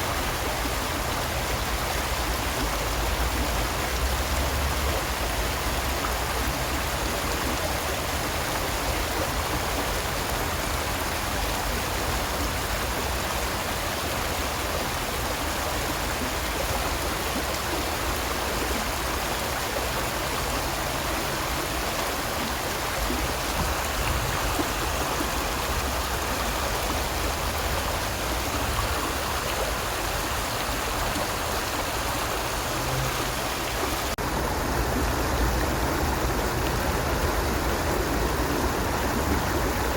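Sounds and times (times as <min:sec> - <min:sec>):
stream of water flowing: 0:00.0 - 0:39.9.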